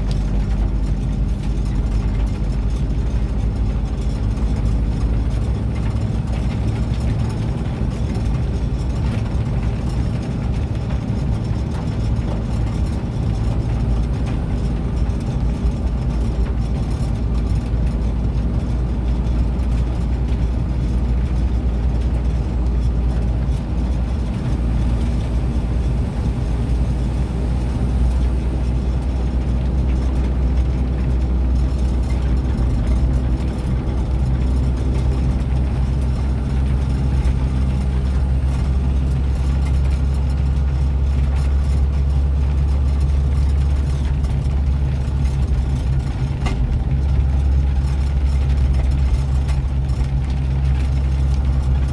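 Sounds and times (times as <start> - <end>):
road noise on wet road: 0.0 - 51.9
vehicle engine drone: 0.0 - 51.9.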